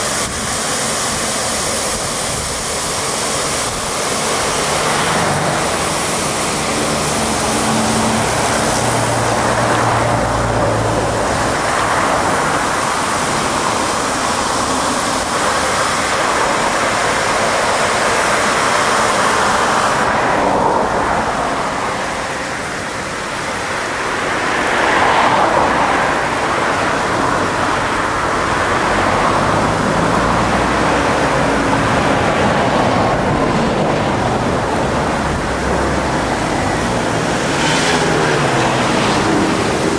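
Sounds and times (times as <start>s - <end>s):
high-pressure water jets hissing: 0.0s - 39.9s.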